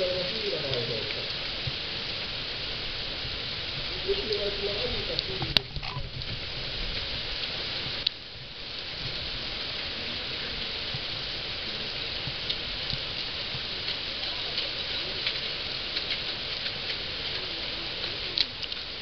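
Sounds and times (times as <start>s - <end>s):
heavy rain on gravel and puddles: 0.0s - 19.0s.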